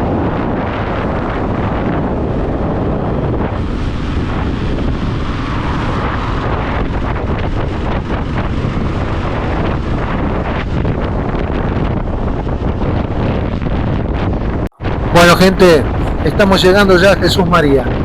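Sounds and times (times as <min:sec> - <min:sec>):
road noise: 0:00.0 - 0:18.0
wind rushing over microphone: 0:00.0 - 0:18.0.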